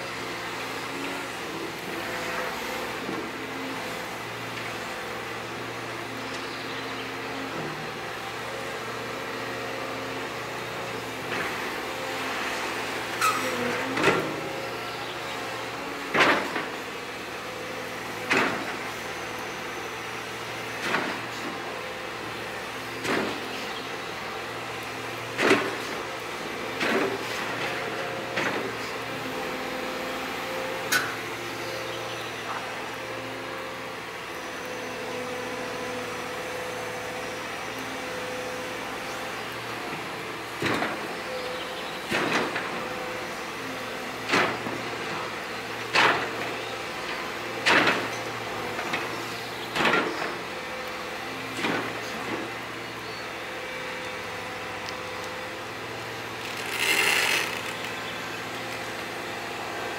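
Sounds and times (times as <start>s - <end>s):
excavator running: 0.0s - 59.9s.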